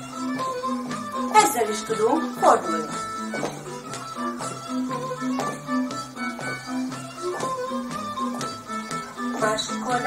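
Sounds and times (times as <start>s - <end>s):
folk dance music: 0.0s - 10.0s.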